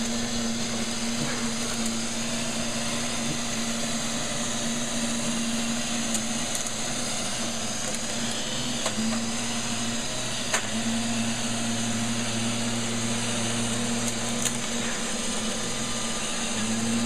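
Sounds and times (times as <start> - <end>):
brushes whirring: 0.0 - 17.0
robot vacuum motor hum: 0.0 - 17.0.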